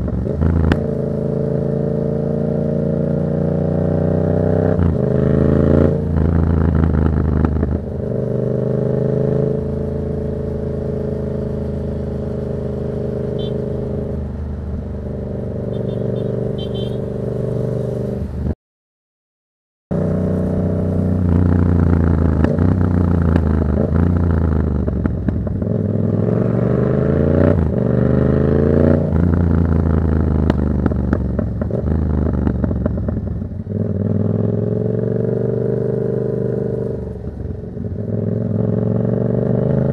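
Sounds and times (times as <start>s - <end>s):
motorcycle engine revving: 0.0s - 18.6s, 19.9s - 39.9s.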